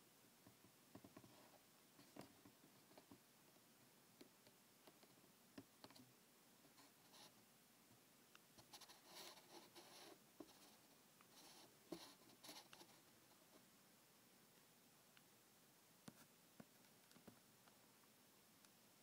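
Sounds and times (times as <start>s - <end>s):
faint scratching and rustling: 0.4s - 13.8s, 16.0s - 18.7s.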